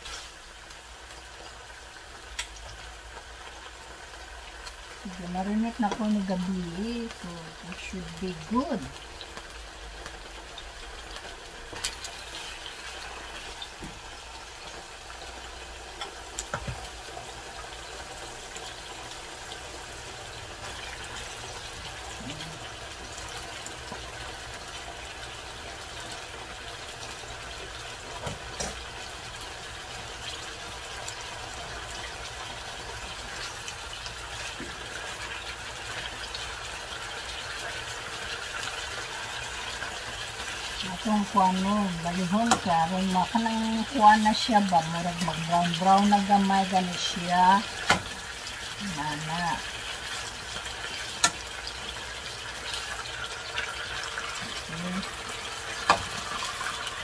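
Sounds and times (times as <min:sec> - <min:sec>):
chicken sizzling in hot oil: 0:00.0 - 0:57.0
spatula turning food in pan: 0:00.0 - 0:57.0.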